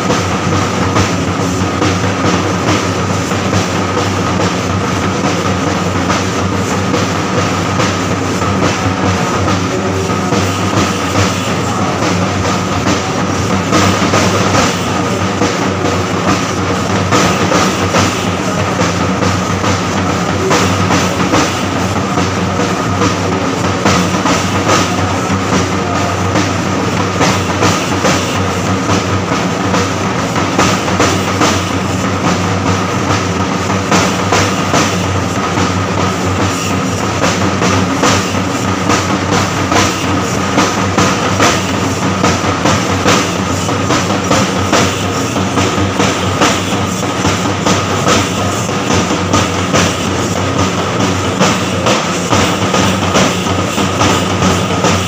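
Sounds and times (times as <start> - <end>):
drum ensemble beating fast rhythm: 0.0 - 55.0.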